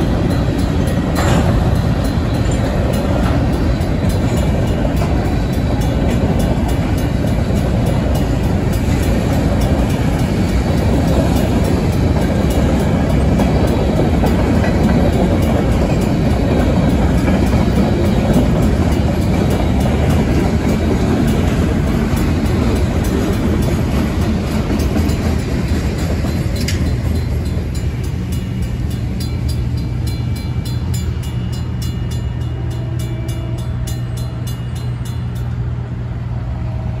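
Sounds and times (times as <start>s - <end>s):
crossing bell ringing: 0.0s - 36.2s
train wheels rumbling on rails: 0.0s - 37.0s.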